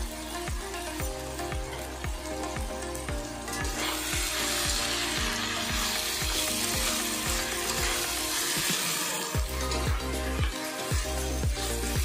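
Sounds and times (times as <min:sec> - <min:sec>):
background music with steady beat: 0:00.0 - 0:12.0
food sizzling in hot oil: 0:00.0 - 0:12.0.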